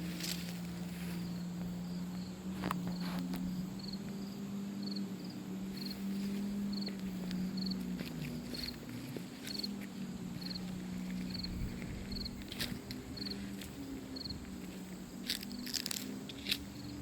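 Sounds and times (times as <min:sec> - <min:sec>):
crickets chirping: 0:00.0 - 0:17.0
steady low hum: 0:00.0 - 0:17.0.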